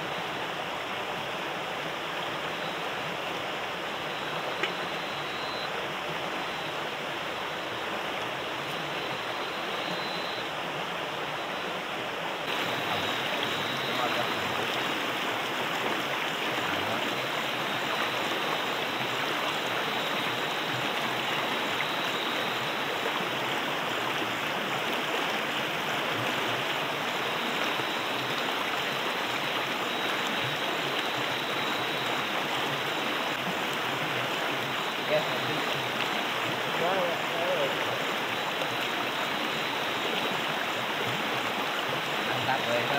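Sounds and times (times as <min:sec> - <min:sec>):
river rushing: 0:00.0 - 0:42.9.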